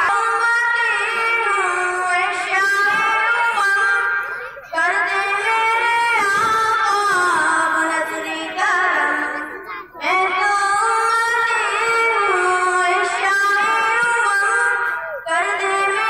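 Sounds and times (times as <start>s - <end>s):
high voice singing: 0.0s - 16.0s.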